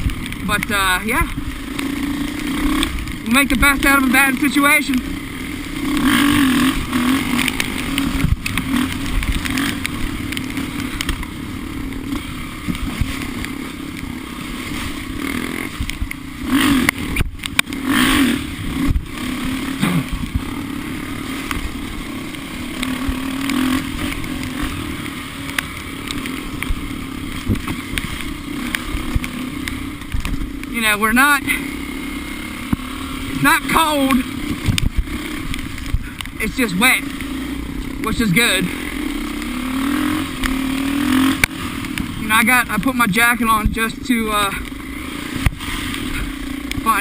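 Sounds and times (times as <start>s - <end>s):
off-road vehicle engine running: 0.0s - 47.0s.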